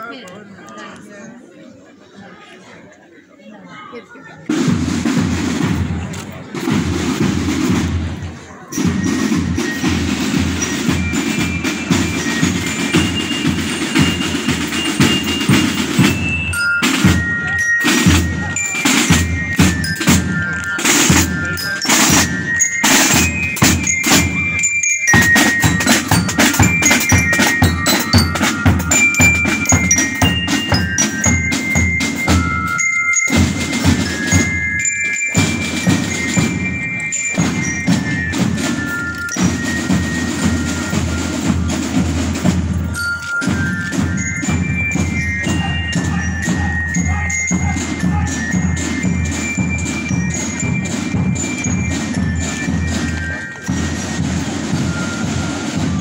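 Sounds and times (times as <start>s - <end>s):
drums beating: 4.4s - 56.0s
high melody: 6.6s - 56.0s.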